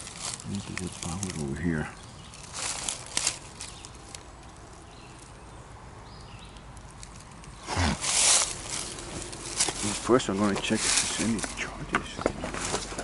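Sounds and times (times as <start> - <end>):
rustle and crunch of leaves: 0.0 - 13.0.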